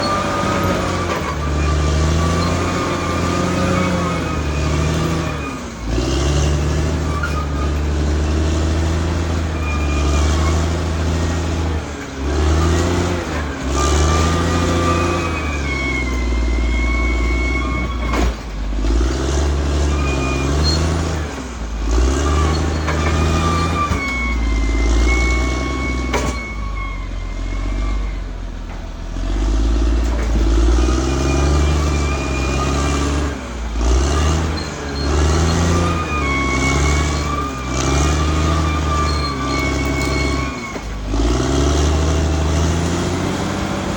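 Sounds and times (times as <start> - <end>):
bulldozer diesel engine under load: 0.0 - 43.9.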